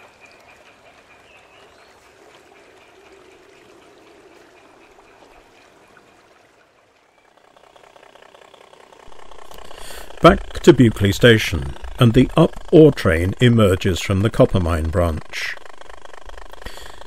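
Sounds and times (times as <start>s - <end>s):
model wagons rolling on track: 2.5s - 17.0s.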